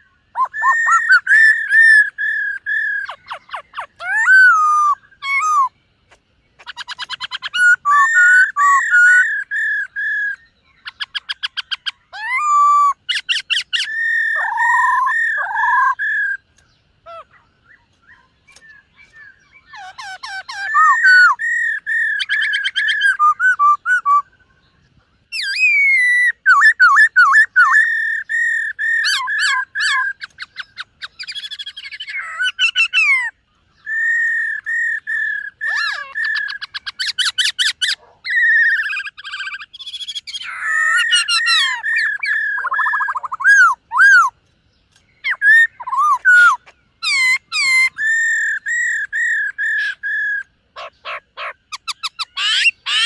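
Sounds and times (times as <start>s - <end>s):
bird whistled song: 0.0s - 53.0s.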